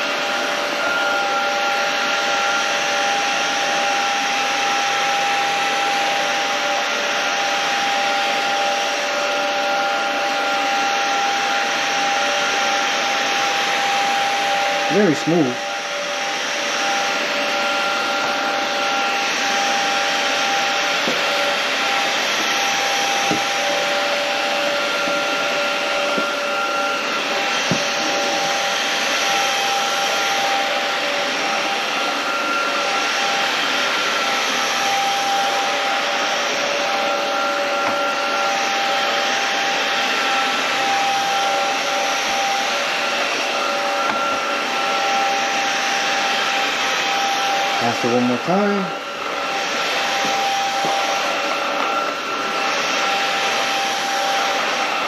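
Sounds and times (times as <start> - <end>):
stick vacuum running: 0.0 - 55.0.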